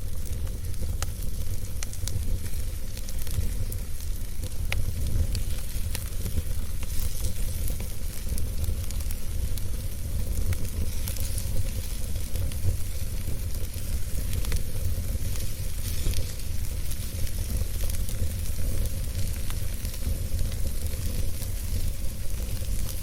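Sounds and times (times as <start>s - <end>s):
campfire crackling and hissing: 0.0s - 23.0s.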